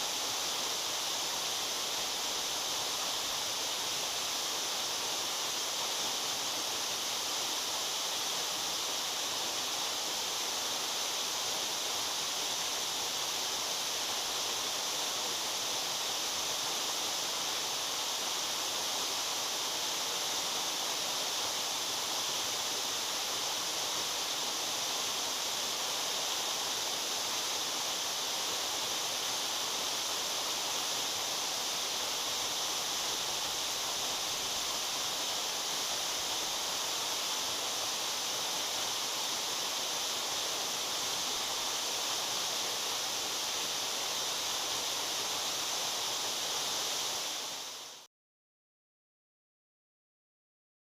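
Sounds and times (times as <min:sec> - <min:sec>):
waterfall rushing and splashing: 0:00.0 - 0:48.1.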